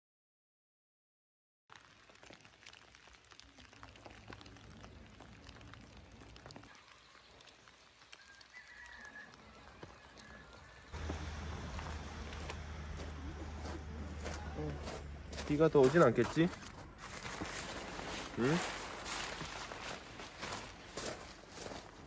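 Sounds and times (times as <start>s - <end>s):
light rain drops tapping: 1.7s - 22.0s.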